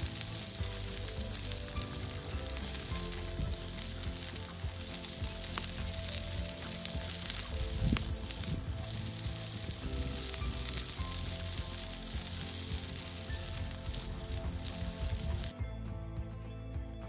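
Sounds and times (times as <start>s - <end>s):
meat sizzling in a frying pan: 0.0s - 15.5s.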